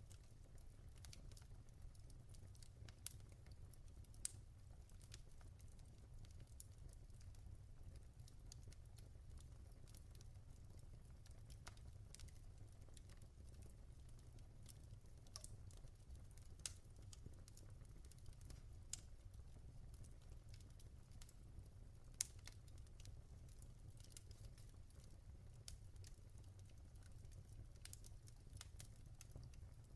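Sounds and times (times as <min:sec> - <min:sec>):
logs crackling in fireplace: 0:00.0 - 0:29.9.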